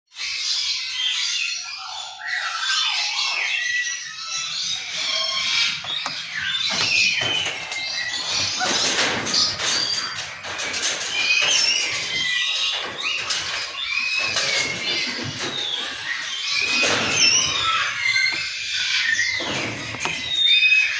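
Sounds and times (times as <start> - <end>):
baby cockatoos squealing: 0.2 - 20.9.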